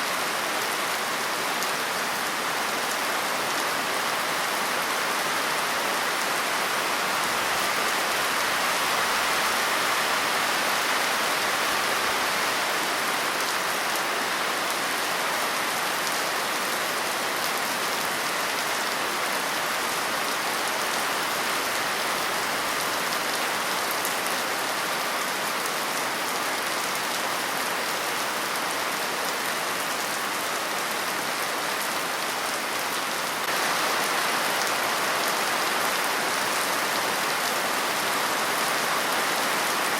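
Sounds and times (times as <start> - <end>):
heavy rain pattering: 0.4 - 39.9.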